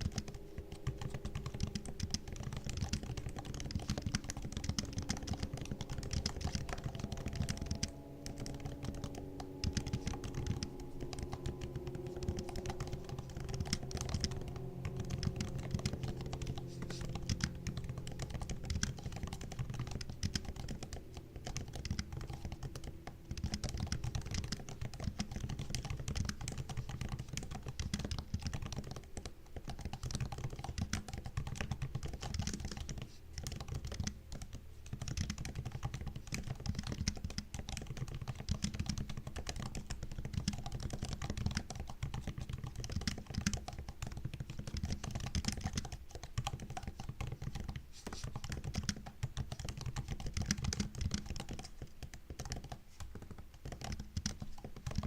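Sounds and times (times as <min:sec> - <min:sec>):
laptop keyboard typing: 0:00.0 - 0:55.0.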